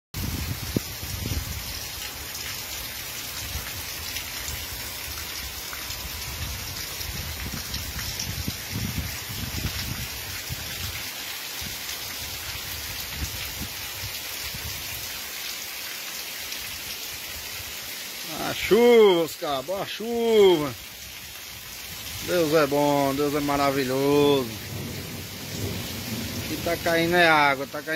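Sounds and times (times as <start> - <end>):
heavy rain pouring: 0.2 - 27.9.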